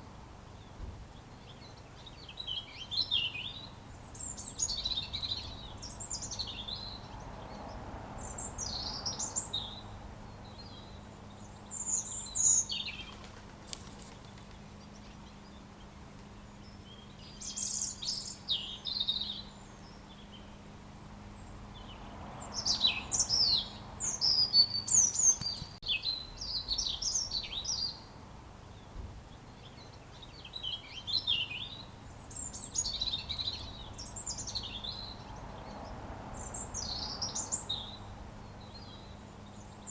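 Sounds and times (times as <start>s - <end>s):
robin singing: 0.6s - 13.2s, 13.9s - 39.9s.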